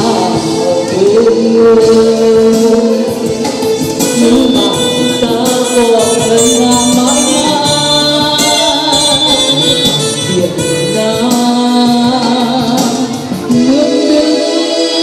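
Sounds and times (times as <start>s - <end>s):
instrumental accompaniment with beat: 0.0s - 15.0s
woman singing into microphone: 0.0s - 15.0s.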